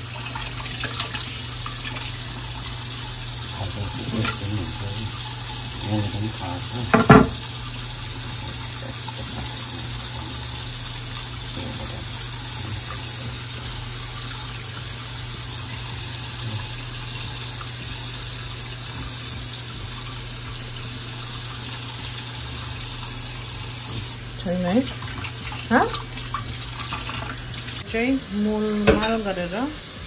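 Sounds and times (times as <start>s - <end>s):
tap water running into sink: 0.0s - 30.0s.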